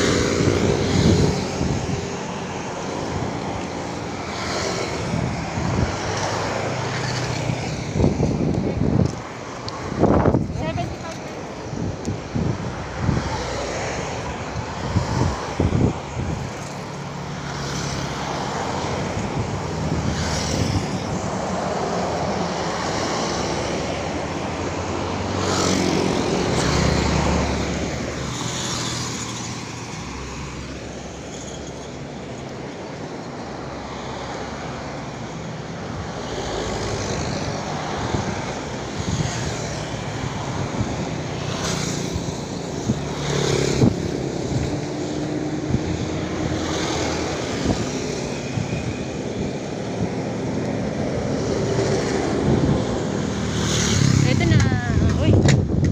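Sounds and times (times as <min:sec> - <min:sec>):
cars passing: 0:00.0 - 0:55.9
motorcycles passing: 0:00.0 - 0:55.9.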